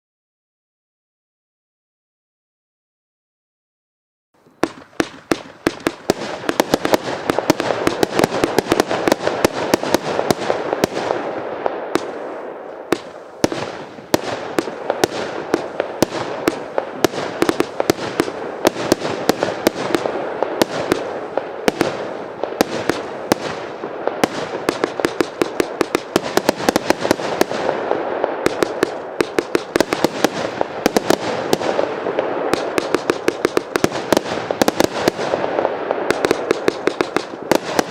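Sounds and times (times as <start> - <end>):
firework barrage firing sharp shots: 4.6 - 37.9.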